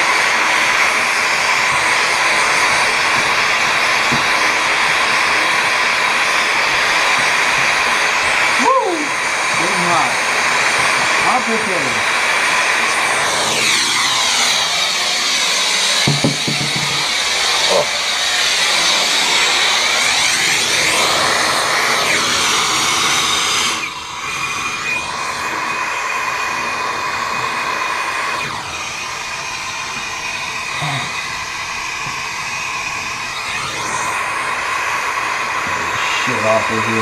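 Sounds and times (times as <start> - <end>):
gas torch flame hissing: 0.0 - 37.0.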